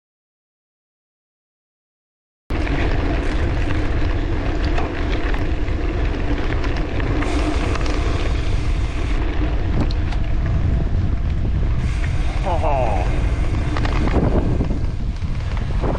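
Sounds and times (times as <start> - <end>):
bicycle tyres rolling on gravel: 2.5 - 15.9
grit ticking under wheels: 2.5 - 15.9
wind buffeting microphone: 2.5 - 15.9.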